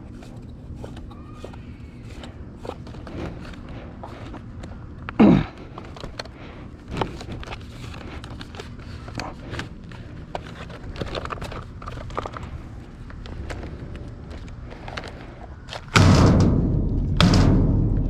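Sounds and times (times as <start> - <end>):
rustling and crinkling items: 0.0 - 16.2.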